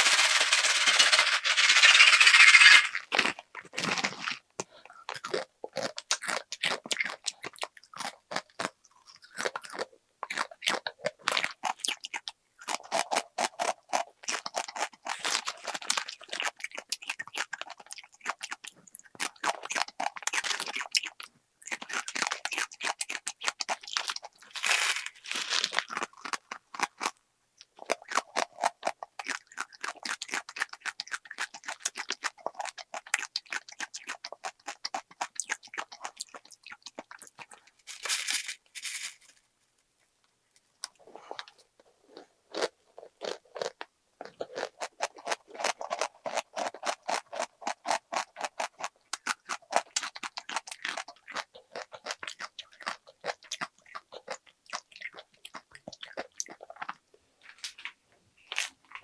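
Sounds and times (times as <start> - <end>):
crunching and chewing snack: 1.9 - 39.4, 40.5 - 59.0.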